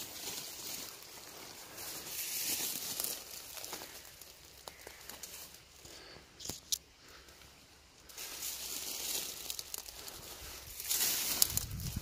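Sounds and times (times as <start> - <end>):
dry stems and leaves rustling: 0.0 - 12.0.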